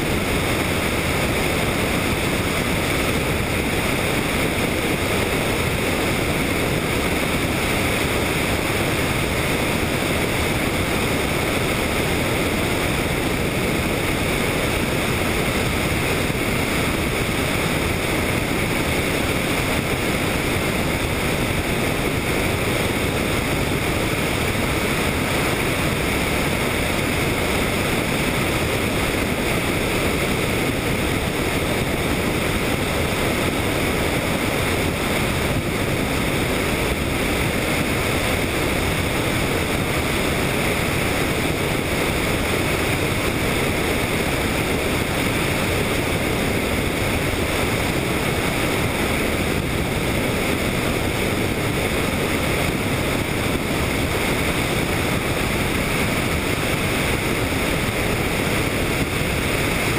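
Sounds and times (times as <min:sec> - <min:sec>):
helicopter in flight: 0:00.0 - 0:59.9.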